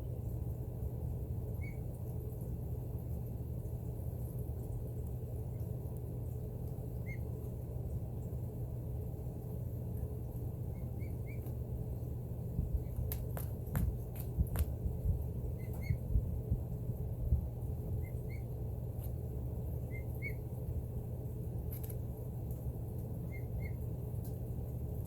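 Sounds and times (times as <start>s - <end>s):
heat vent air rush: 0.0s - 25.0s.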